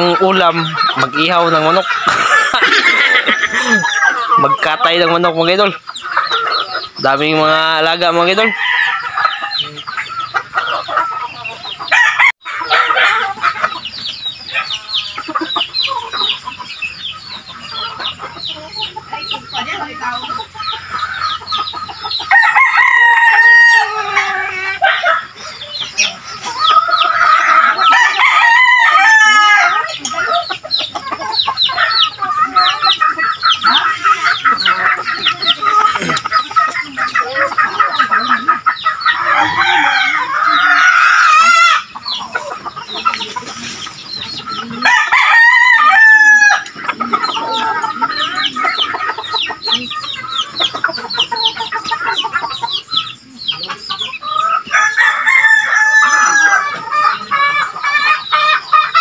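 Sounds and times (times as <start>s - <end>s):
chickens clucking: 0.0s - 59.0s
roosters crowing: 0.0s - 59.0s.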